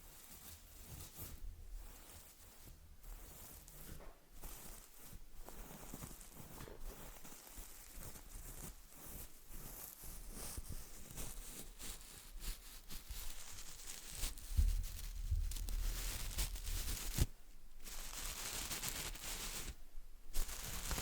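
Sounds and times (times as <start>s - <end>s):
paintbrush bristles crackling: 0.1s - 21.0s.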